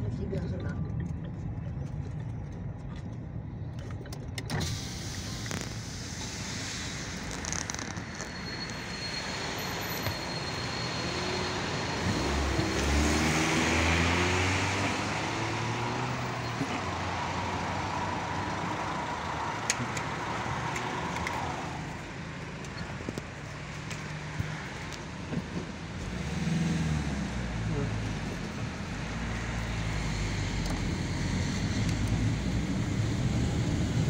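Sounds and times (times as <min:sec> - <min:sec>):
road and idling noise: 0:00.0 - 0:34.0
vehicle engine speeding up: 0:05.4 - 0:34.0.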